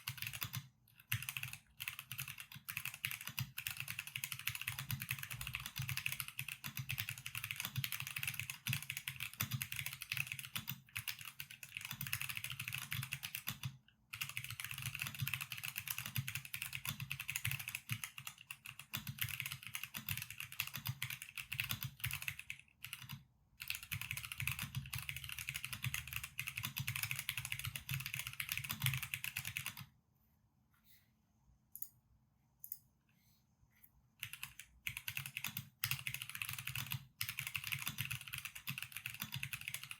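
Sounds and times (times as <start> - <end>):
mechanical keyboard typing: 0.0 - 29.9, 34.2 - 39.9.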